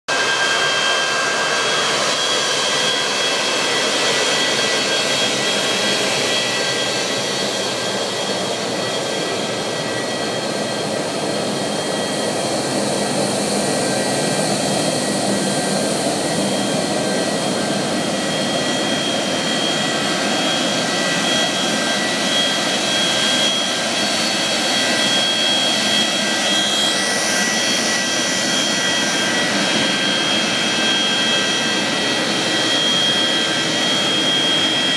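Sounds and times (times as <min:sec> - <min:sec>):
jet engines idling: 0:00.1 - 0:34.9.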